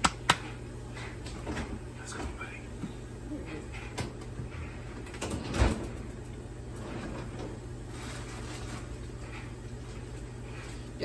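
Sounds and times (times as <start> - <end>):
microwave humming: 0.0 - 11.0.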